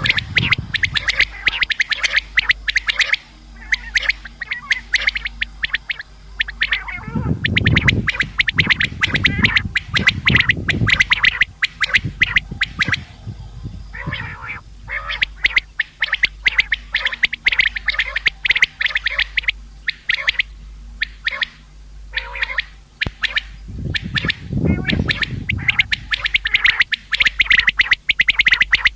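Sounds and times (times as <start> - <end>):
low rumbling noise: 0.0 - 28.9
quail calling: 0.0 - 28.9.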